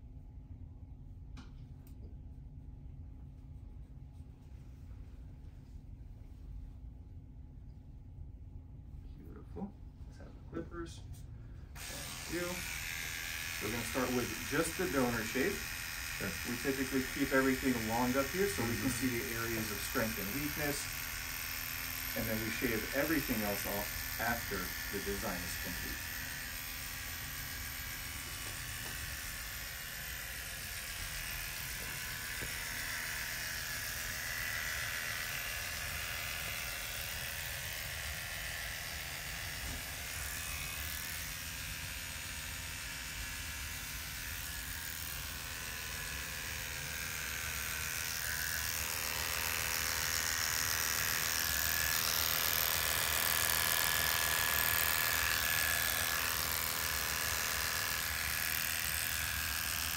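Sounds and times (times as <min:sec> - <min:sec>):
electric hair clippers buzzing: 0:11.7 - 0:59.9.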